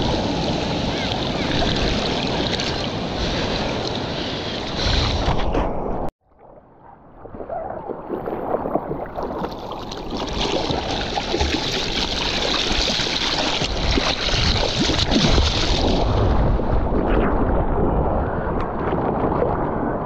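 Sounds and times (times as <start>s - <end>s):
surf water rushing and splashing: 0.0s - 20.0s.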